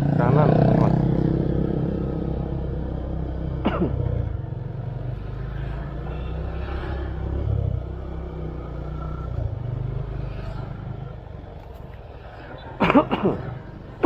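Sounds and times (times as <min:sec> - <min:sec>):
motor scooter riding along street: 0:00.0 - 0:14.0.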